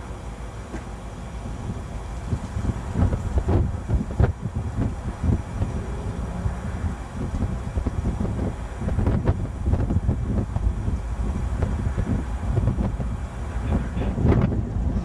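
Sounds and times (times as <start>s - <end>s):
diesel locomotives rumbling: 0.0s - 15.0s
wind buffeting microphone: 1.3s - 15.0s.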